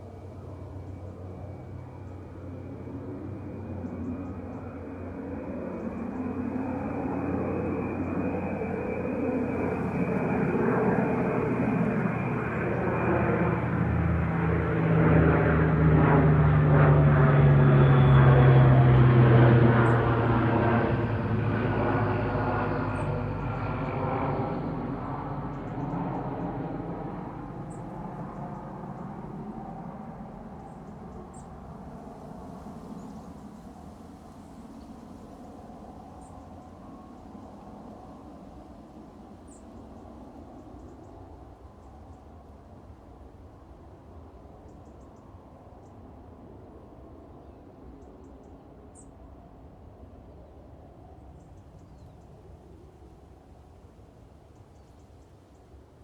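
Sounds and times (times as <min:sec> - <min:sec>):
propeller plane flying overhead: 0:00.0 - 0:56.0.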